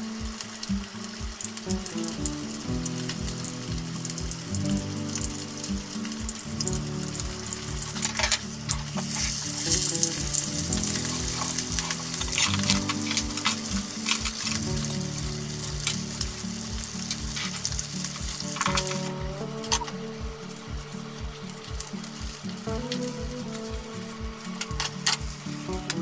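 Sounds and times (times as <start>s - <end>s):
cutlets sizzling in oil: 0.0s - 26.0s.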